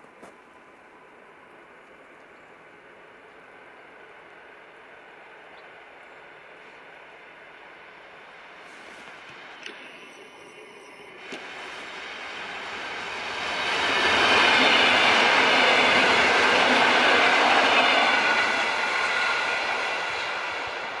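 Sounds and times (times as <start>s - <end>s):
electric train passing: 0.5s - 21.0s
wheels whining on rails: 0.8s - 21.0s.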